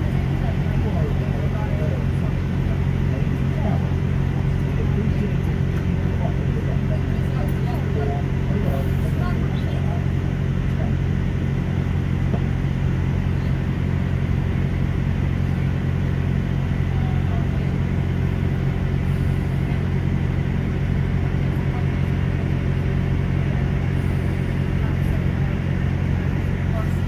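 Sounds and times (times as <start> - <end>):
train diesel engine drone: 0.0 - 27.0.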